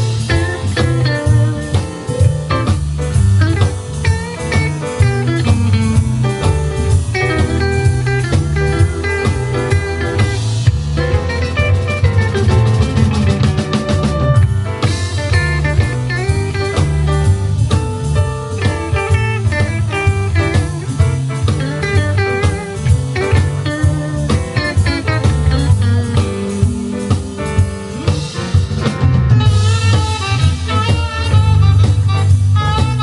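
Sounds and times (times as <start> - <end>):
drum kit: 0.0 - 33.0
keyboard melody: 0.0 - 33.0
upright bass: 0.0 - 33.0.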